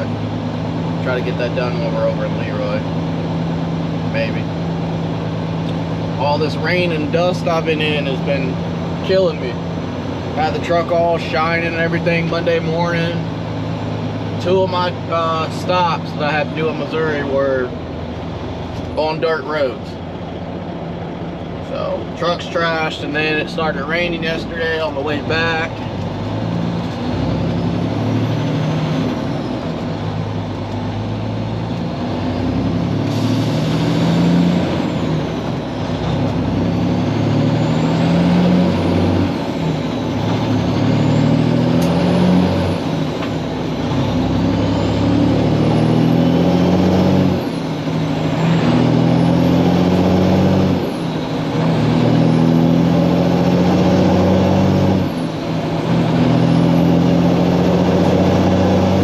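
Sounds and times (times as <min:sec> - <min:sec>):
diesel truck engine pulling through gears: 0:00.0 - 0:59.0.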